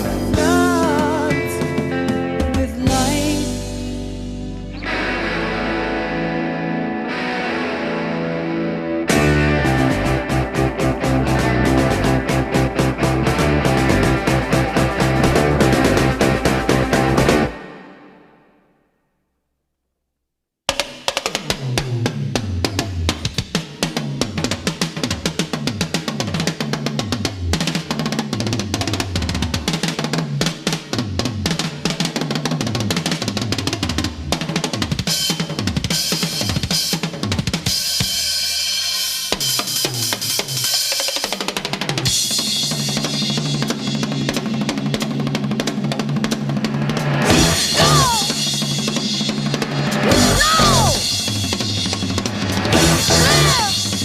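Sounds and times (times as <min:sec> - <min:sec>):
backing song with drum kit: 0:00.0 - 0:06.8, 0:09.0 - 0:18.1, 0:20.7 - 0:54.0
bass: 0:00.0 - 0:17.7, 0:21.5 - 0:38.2, 0:42.0 - 0:54.0.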